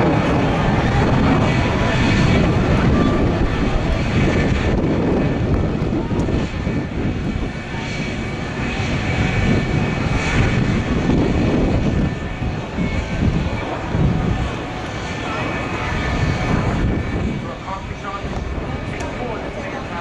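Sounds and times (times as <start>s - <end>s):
jet flying overhead: 0.0s - 20.0s.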